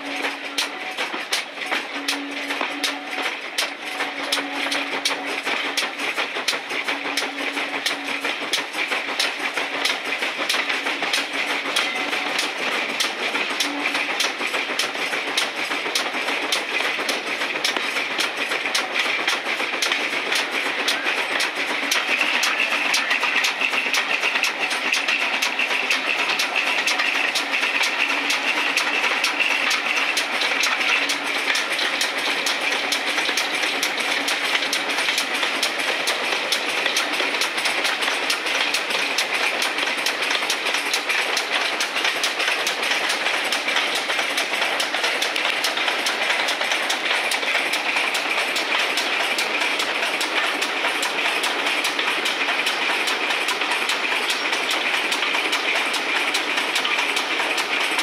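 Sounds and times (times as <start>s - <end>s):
train running noise: 0.0s - 58.0s
wheels clicking on rail: 0.0s - 58.0s.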